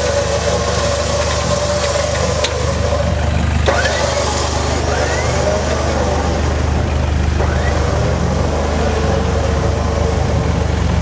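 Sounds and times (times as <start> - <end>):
pickup engine running: 0.0 - 11.0.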